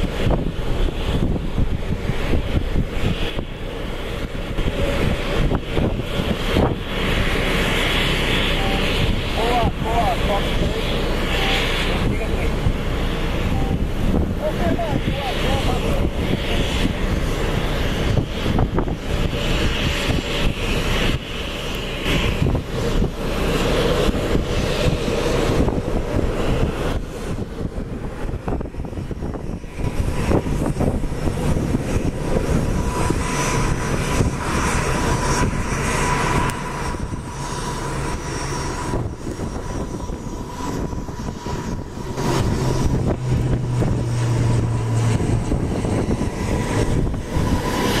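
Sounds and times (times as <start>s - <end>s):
low propeller drone: 0.0s - 48.0s
turboprop airliner engine whine: 0.0s - 48.0s.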